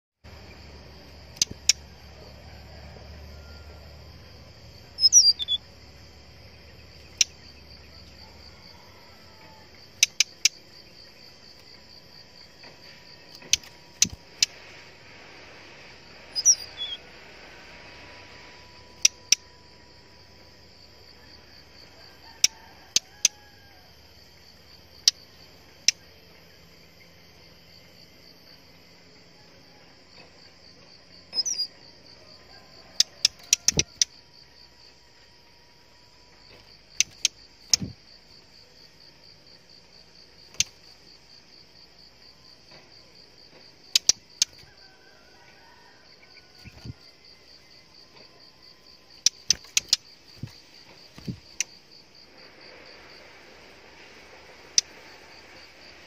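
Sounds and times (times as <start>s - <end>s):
high-pitched insect trill: 0.3s - 56.0s.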